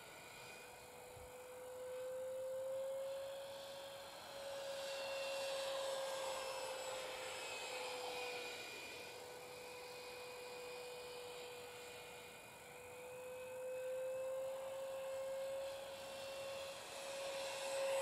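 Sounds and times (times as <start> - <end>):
model jet fan whining: 0.0 - 18.0.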